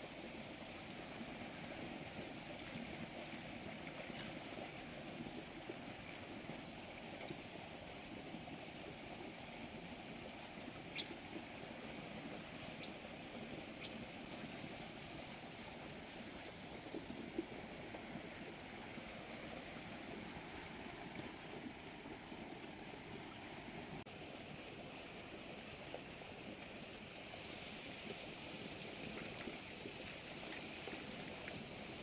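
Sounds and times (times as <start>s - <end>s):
water rushing down a canal: 0.0s - 32.0s.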